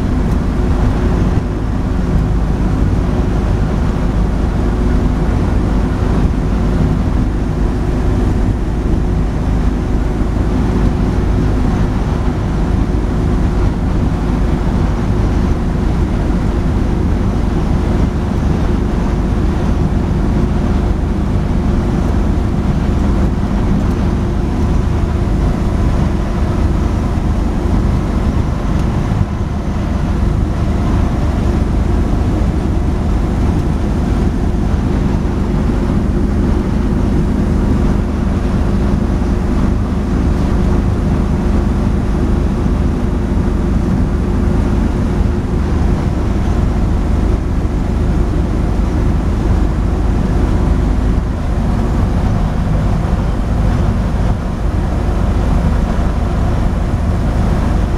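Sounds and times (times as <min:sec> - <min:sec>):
engine drone: 0:00.0 - 0:57.9
road and wind noise: 0:00.0 - 0:57.9.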